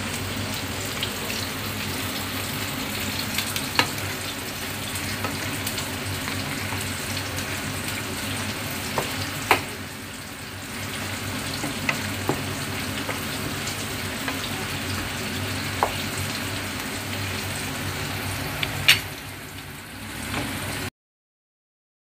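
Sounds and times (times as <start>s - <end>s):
meat sizzling in a frying pan: 0.0s - 20.9s.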